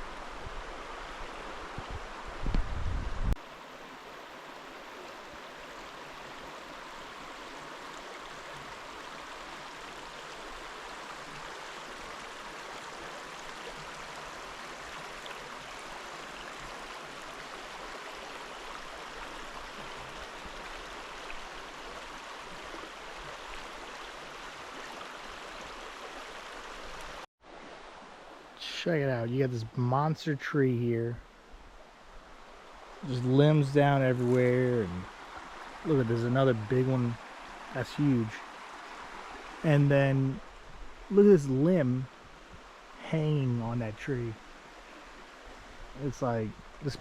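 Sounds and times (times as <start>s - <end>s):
river rushing: 3.4s - 29.3s, 31.3s - 47.0s.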